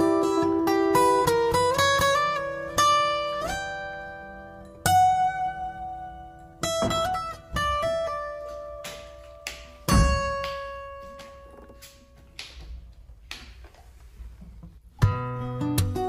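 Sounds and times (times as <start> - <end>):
plucked guitar notes: 0.0 - 12.5, 14.9 - 16.0.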